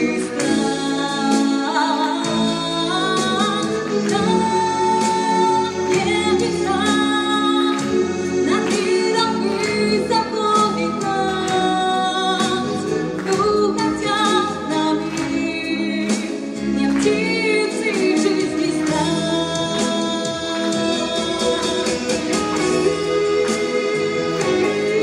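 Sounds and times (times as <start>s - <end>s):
instrumental accompaniment: 0.0s - 25.0s
woman singing into microphone: 0.0s - 25.0s.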